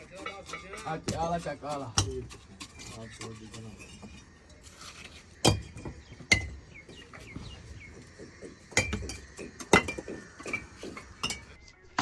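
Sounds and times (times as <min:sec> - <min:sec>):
metal tools clinking on brick: 0:00.0 - 0:07.4, 0:08.0 - 0:11.6
bird chirping: 0:00.0 - 0:11.9.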